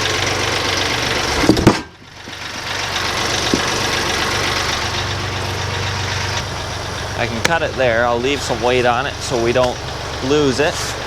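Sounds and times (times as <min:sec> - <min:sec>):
gas engine running: 0:00.0 - 0:11.0.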